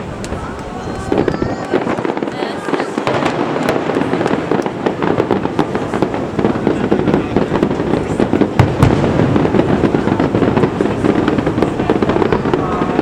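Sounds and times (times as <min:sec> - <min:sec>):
fireworks crackling: 0:00.0 - 0:13.0
heavy firework booms: 0:00.0 - 0:13.0.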